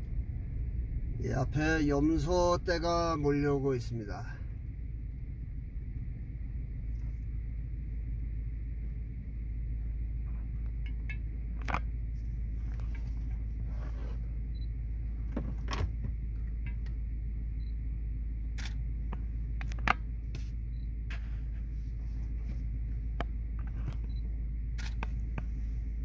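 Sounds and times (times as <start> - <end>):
car engine humming: 0.0 - 26.0.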